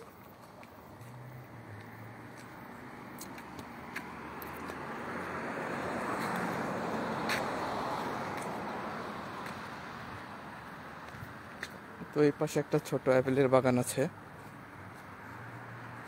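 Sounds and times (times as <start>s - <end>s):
car passing: 0.0s - 12.4s, 13.5s - 16.0s.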